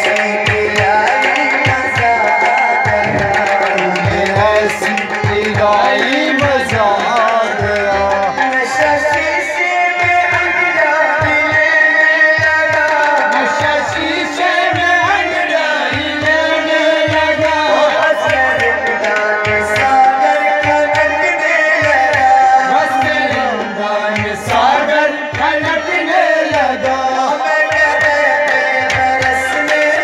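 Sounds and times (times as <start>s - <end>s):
hand drum beat: 0.0s - 30.0s
harmonium chords: 0.0s - 30.0s
man singing into a microphone: 0.0s - 30.0s.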